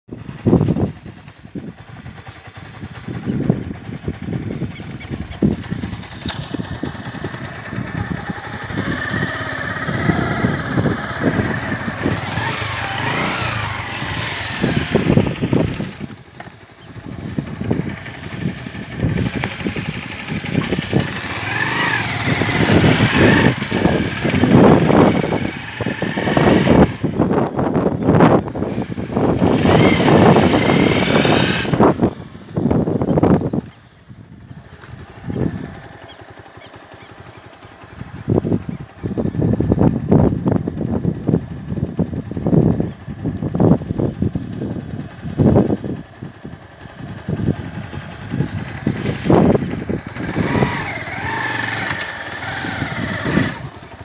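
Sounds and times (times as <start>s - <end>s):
wind buffeting microphone: 0.1s - 37.0s, 37.7s - 54.0s
motorcycle engine running: 0.1s - 54.0s.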